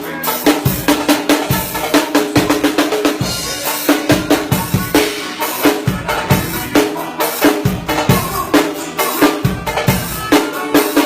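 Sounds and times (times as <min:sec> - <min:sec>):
drum kit groove: 0:00.0 - 0:11.0
pitched instruments: 0:00.0 - 0:11.0.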